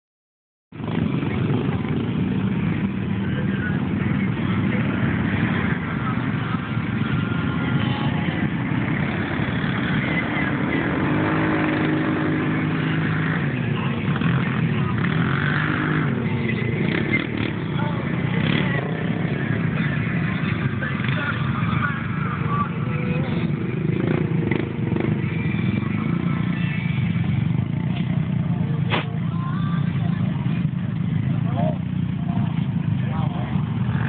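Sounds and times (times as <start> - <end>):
atv engine revving: 0.8 - 34.0
atv engines running: 0.8 - 34.0.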